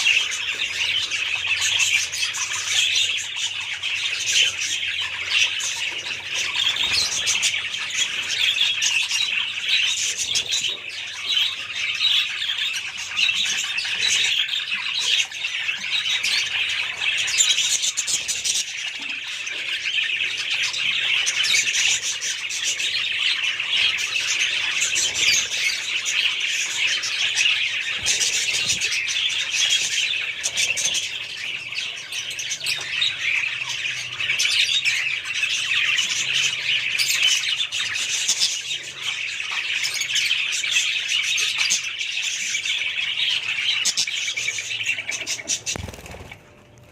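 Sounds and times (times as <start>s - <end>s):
budgerigars chattering and chirping: 0.0s - 46.9s.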